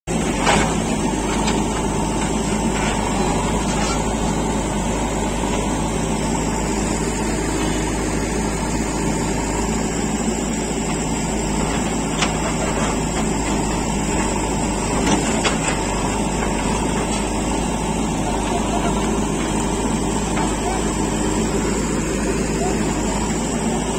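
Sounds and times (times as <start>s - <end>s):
diesel engine running: 0.1s - 23.9s.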